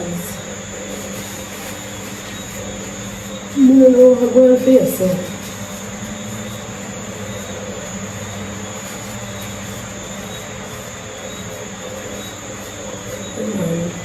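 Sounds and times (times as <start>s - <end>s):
mechanical drone with low hum: 0.0s - 14.0s.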